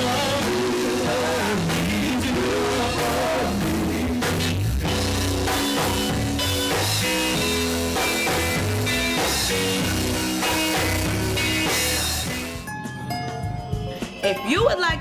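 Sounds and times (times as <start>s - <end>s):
electric guitar: 0.0s - 13.0s
bass guitar: 0.0s - 15.0s
drum kit beat: 0.0s - 15.0s.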